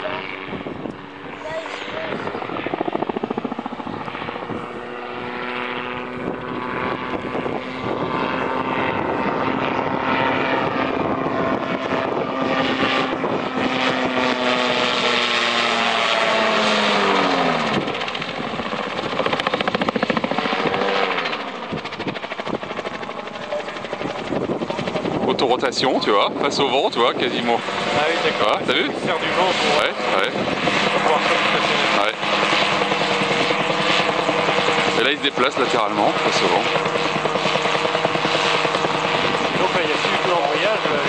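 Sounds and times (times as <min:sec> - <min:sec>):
autogyro engine and propeller: 0:00.0 - 0:41.0.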